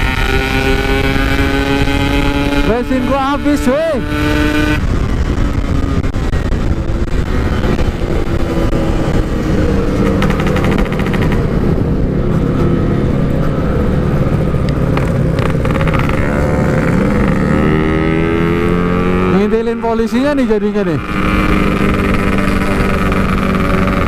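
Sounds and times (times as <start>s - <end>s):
wind rush on microphone: 0.0s - 19.3s, 20.9s - 24.0s
motorcycle engine while riding: 0.0s - 24.0s.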